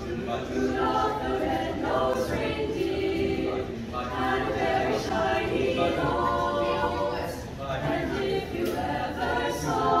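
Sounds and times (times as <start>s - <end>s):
choir singing in harmony: 0.0s - 10.0s.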